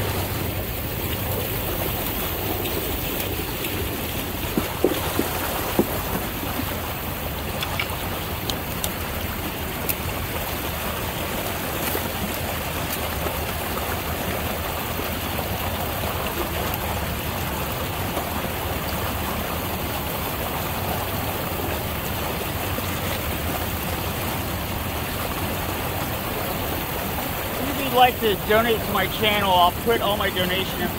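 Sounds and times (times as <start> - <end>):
water rushing from drain: 0.0 - 30.9.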